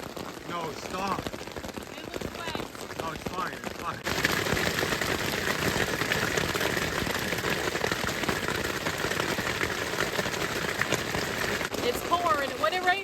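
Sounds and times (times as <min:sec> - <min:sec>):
heavy rain on a tarp: 0:00.0 - 0:13.0.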